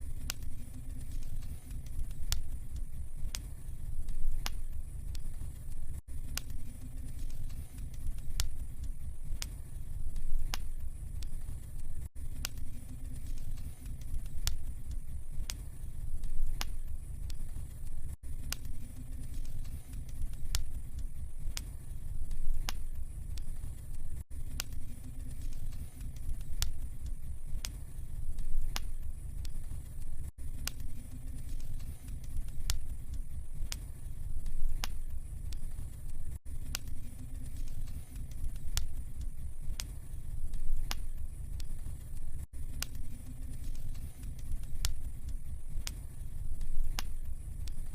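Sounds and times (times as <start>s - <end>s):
fire crackling and popping: 0.0s - 47.9s
low rumble of flames: 0.0s - 47.9s.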